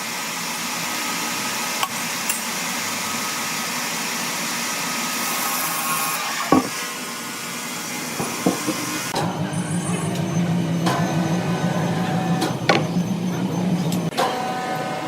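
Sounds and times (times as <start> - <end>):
sawmill machinery running: 0.0 - 15.0.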